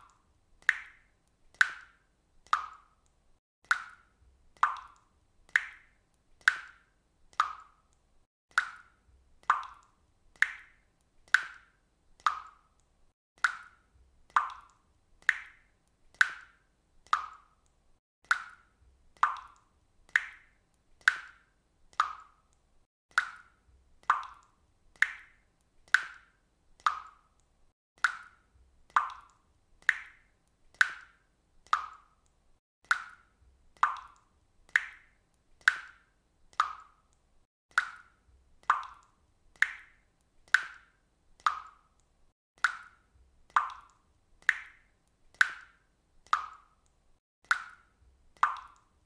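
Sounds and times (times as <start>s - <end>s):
water dripping from faucet: 0.0s - 49.0s.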